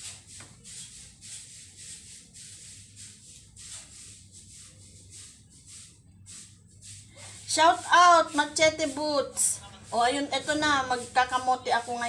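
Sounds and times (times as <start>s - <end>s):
soft rubbing rustles of peeling: 0.0s - 12.0s.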